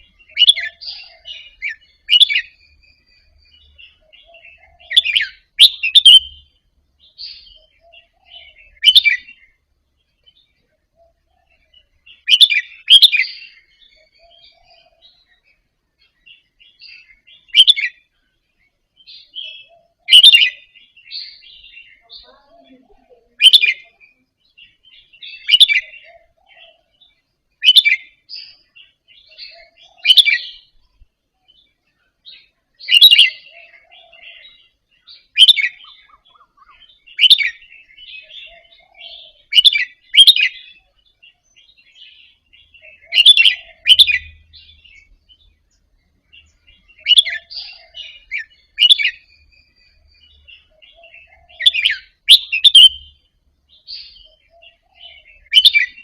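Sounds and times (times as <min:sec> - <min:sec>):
bulbul singing bright phrases: 0:00.0 - 0:56.0.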